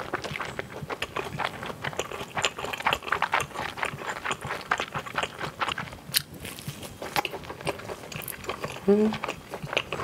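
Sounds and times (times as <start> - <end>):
moist chewing mouth sounds: 0.0 - 10.0.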